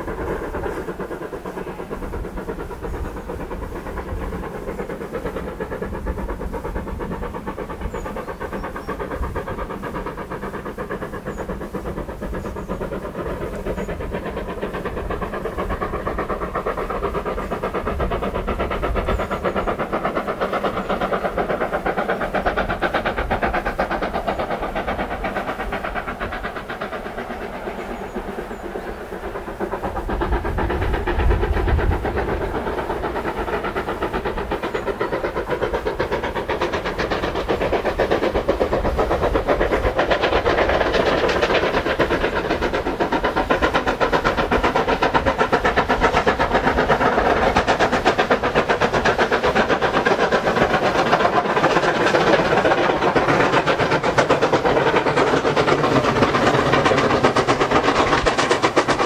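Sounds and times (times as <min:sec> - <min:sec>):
steam locomotives chuffing: 0:00.0 - 0:59.0.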